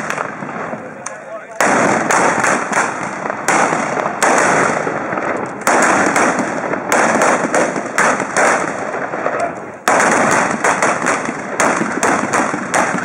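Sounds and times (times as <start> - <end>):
blunderbuss shots: 0.0 - 13.0.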